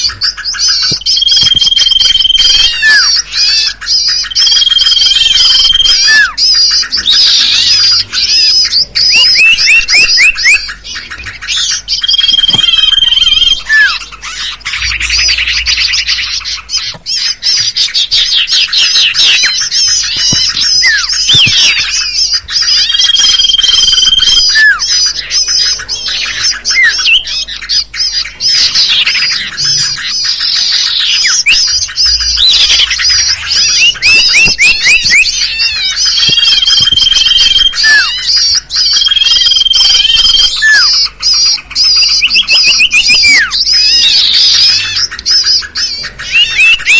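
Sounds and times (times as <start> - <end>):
songbirds chirping and calling: 0.0 - 46.9.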